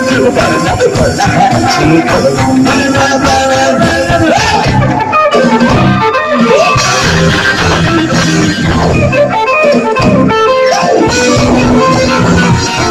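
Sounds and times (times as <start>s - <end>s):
rockabilly band playing live: 0.0s - 12.9s.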